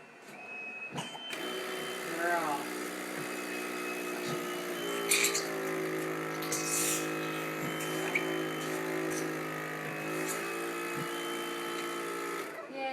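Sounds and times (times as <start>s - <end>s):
blower whining: 0.3s - 12.8s.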